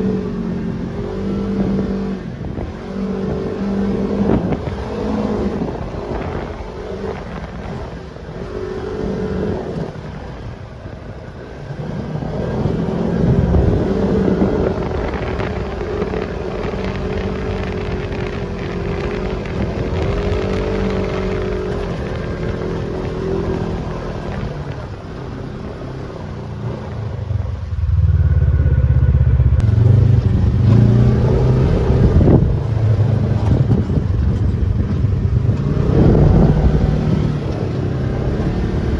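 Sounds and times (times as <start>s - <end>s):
off-road vehicle engine revving: 0.0s - 38.9s
heavy low rumble: 2.2s - 38.9s.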